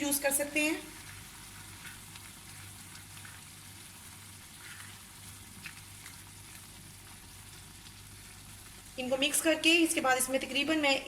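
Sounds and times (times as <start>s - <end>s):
sauce sizzling in a pan: 0.0s - 11.0s.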